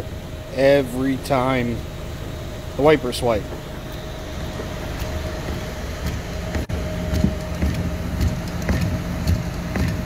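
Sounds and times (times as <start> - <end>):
car steady hum: 0.0 - 10.0.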